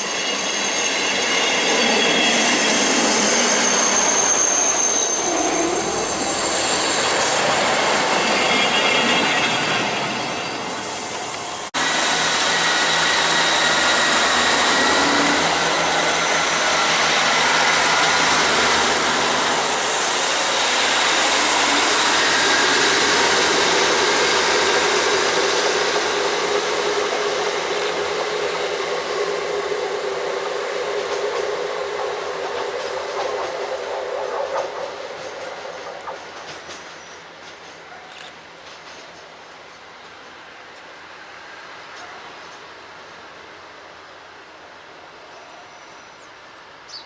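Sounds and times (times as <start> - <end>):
train wheels rushing on rail: 0.0 - 45.2
steady train whine: 0.0 - 46.9.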